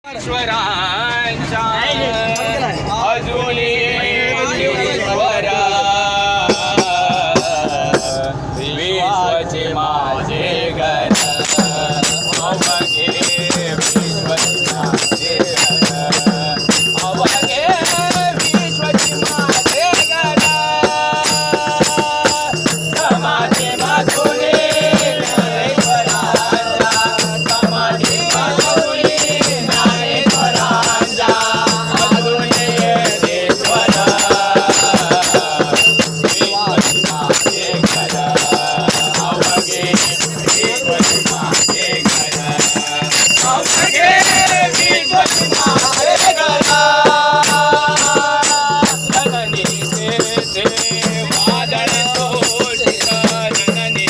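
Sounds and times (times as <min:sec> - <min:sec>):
rhythmic percussion: 0:00.1 - 0:03.1, 0:06.4 - 0:08.8, 0:10.9 - 0:54.0
devotional singing: 0:00.1 - 0:54.0.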